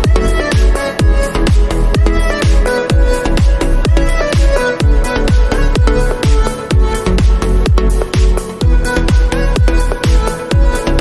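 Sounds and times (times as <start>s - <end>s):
kick drum: 0.0s - 11.0s
synth chords and melody: 0.0s - 11.0s.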